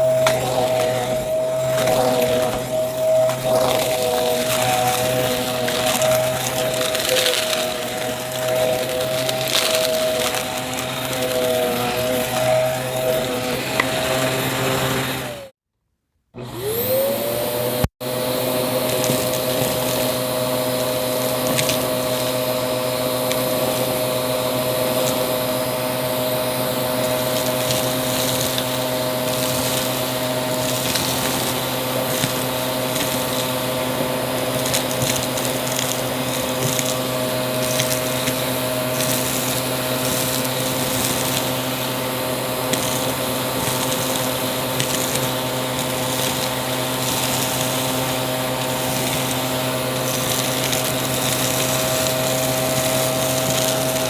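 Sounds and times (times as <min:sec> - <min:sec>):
debris crackling in vacuum: 0:00.0 - 0:15.5, 0:18.6 - 0:54.0
vacuum cleaner motor whine: 0:00.0 - 0:15.6, 0:16.4 - 0:54.0.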